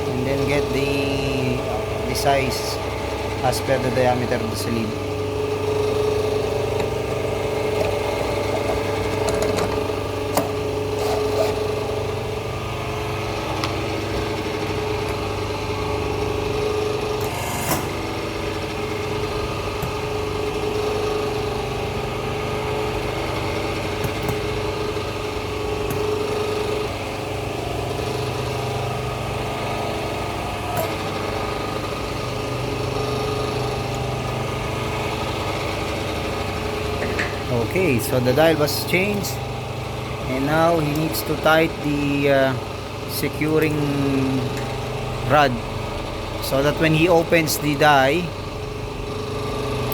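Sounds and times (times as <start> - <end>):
motor and pump humming: 0.0 - 49.9.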